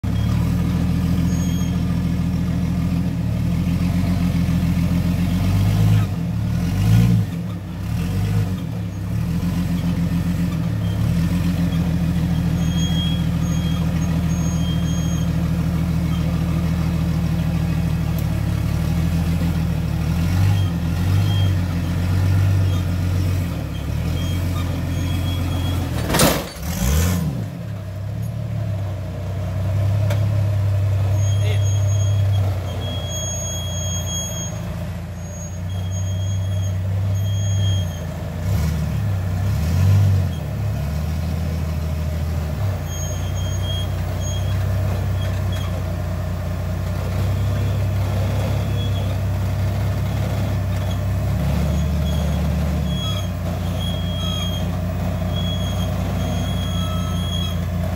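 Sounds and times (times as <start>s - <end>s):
engine running low with revving: 0.0s - 57.9s.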